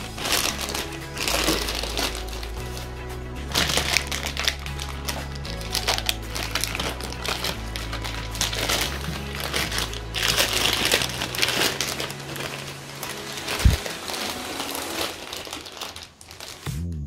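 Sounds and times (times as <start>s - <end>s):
background music with bass line: 0.0s - 14.6s, 16.6s - 17.0s
plastic wrap crinkling: 0.0s - 16.7s.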